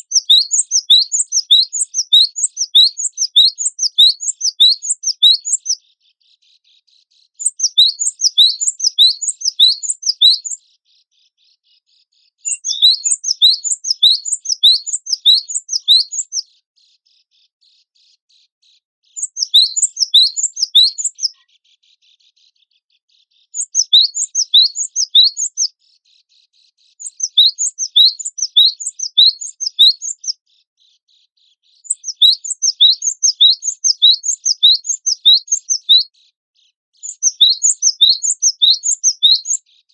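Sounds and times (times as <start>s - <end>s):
bird singing rapid high chirps: 0.0s - 10.7s, 12.3s - 16.6s, 19.1s - 22.8s, 23.4s - 39.9s.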